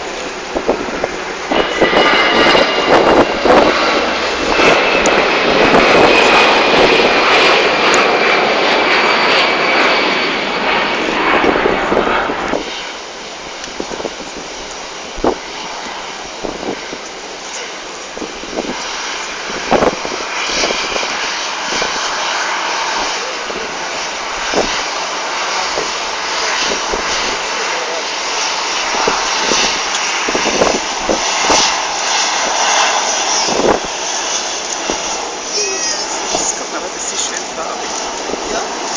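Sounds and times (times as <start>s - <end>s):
jet engines rushing: 0.0s - 38.9s.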